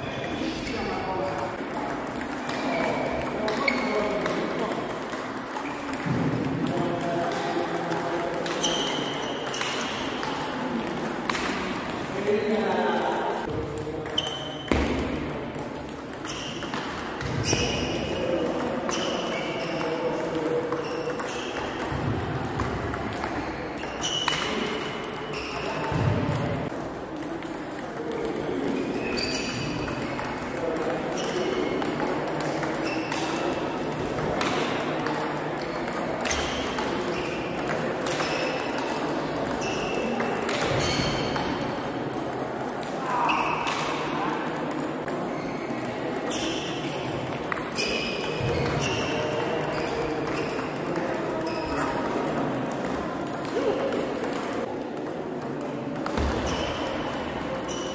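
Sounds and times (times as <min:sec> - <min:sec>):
ping pong ball hitting bats: 0:00.2 - 0:57.9
ping pong ball bouncing on table: 0:01.3 - 0:57.9.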